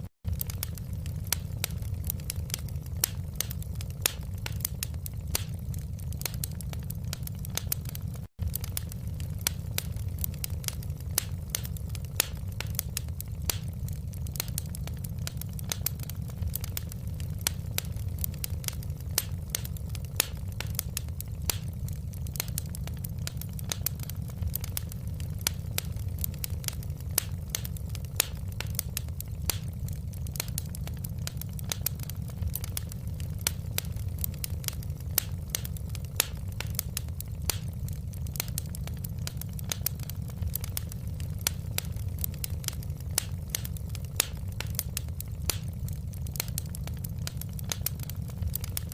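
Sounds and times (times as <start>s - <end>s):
fire crackling in fireplace: 0.0s - 48.9s.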